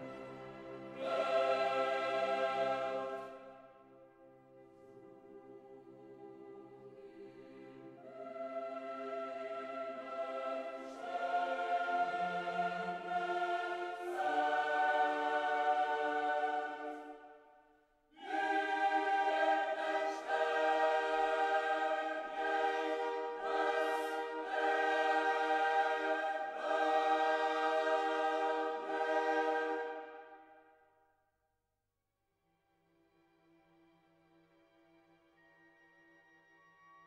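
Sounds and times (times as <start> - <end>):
slow choral chords: 0.0 - 30.8.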